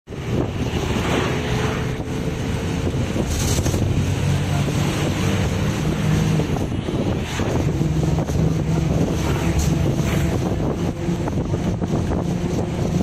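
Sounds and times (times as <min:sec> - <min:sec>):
vehicle engine and road rumble: 0:00.1 - 0:13.0
wind buffeting microphone: 0:00.1 - 0:13.0.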